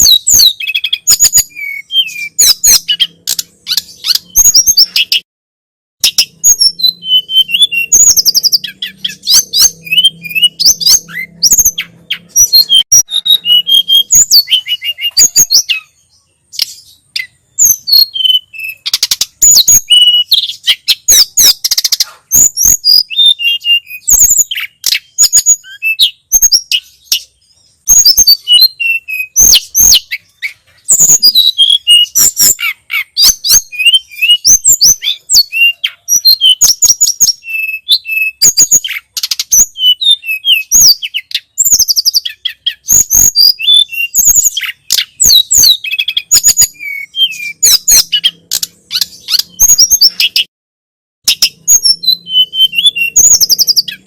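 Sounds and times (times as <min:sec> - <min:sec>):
bird chirping and trilling: 0:00.0 - 0:05.3, 0:06.0 - 0:50.5, 0:51.2 - 0:54.0.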